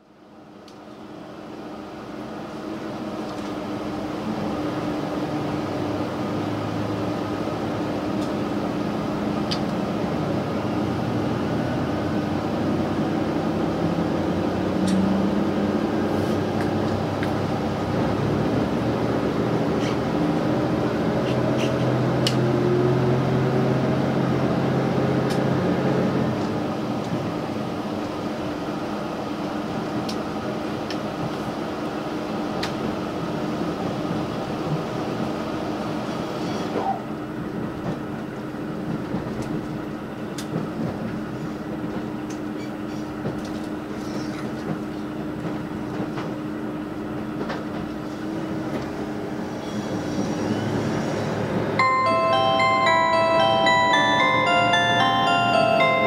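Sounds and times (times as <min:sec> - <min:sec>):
train diesel engine accelerating: 0:00.0 - 0:56.0.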